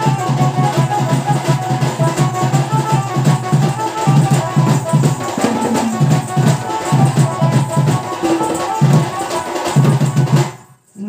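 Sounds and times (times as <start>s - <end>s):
high melody line: 0.0s - 10.3s
hand drum beating: 0.0s - 10.6s.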